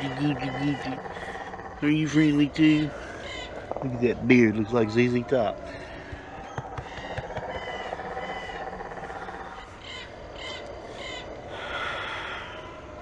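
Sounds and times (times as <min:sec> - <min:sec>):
birds giving harsh calls: 0:00.0 - 0:13.0
outdoor background noise: 0:00.0 - 0:13.0.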